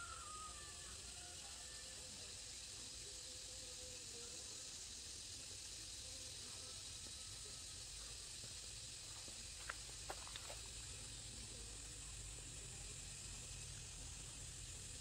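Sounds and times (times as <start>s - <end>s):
faint high-pitched hiss: 0.0s - 15.0s.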